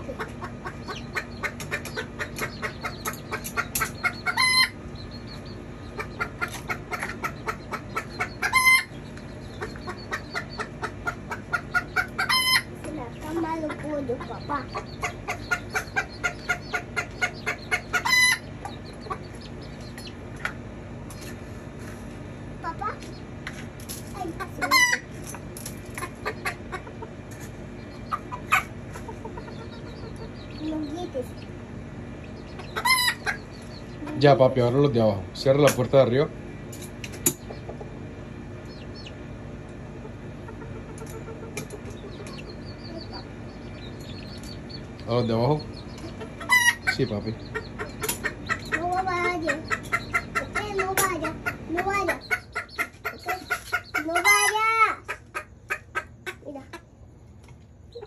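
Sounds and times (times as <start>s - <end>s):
chickens clucking and squawking: 0.0s - 58.0s.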